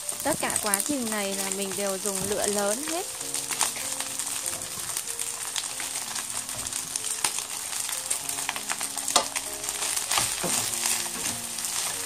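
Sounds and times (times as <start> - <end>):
food sizzling in a frying pan: 0.0 - 12.0
soft background music: 0.0 - 12.0.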